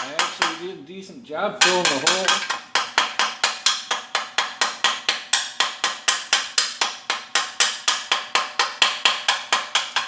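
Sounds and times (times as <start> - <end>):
hammer rapping on metal tube: 0.0 - 0.9, 1.5 - 10.0.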